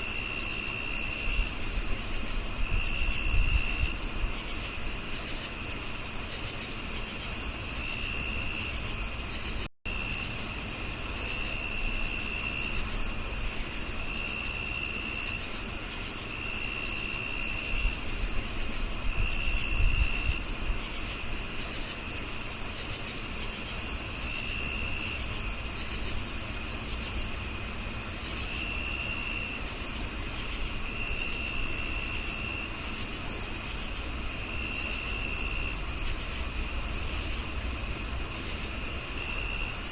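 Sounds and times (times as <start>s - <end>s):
cricket trills: 0.0s - 39.9s
crickets chirping: 0.0s - 39.9s
high insect drone: 0.0s - 39.9s.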